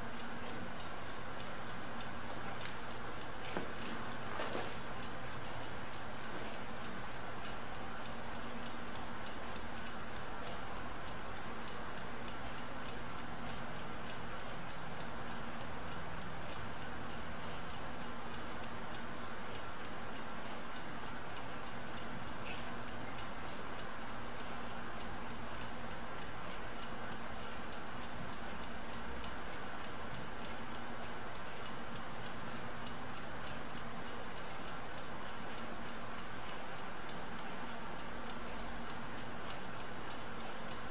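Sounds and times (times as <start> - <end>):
faint steady hum: 0.0 - 40.9
stopclock ticking: 0.0 - 40.9.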